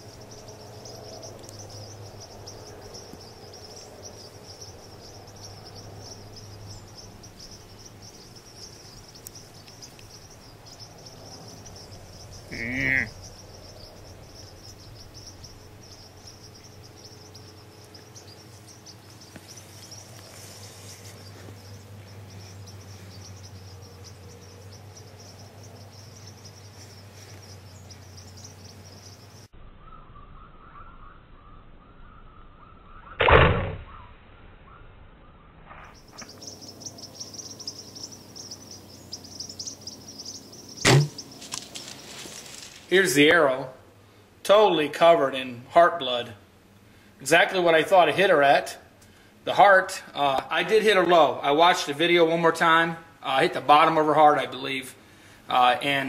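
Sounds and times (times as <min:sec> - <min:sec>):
crickets chirring: 0:00.0 - 0:33.2, 0:35.8 - 0:44.0, 0:44.6 - 0:56.0.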